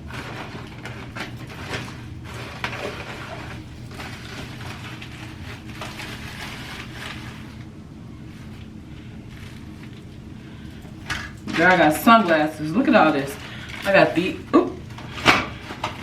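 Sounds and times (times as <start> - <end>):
small objects being rummaged: 0.0 - 7.6, 9.3 - 16.0
low hum: 0.0 - 16.0.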